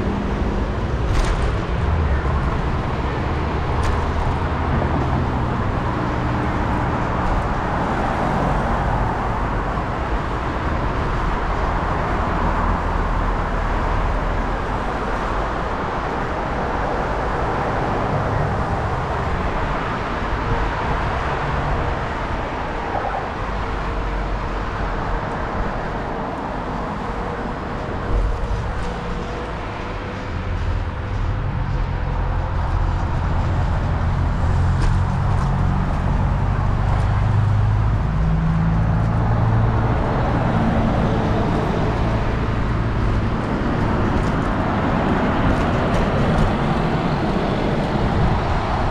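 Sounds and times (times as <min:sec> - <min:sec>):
road traffic rumble: 0:00.0 - 0:48.9.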